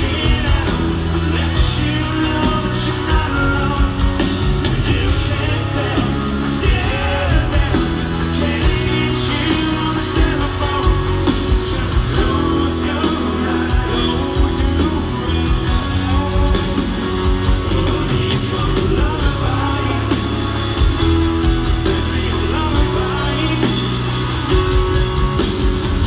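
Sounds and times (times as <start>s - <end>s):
live rock band: 0.0s - 26.0s
male lead vocal singing: 0.0s - 26.0s.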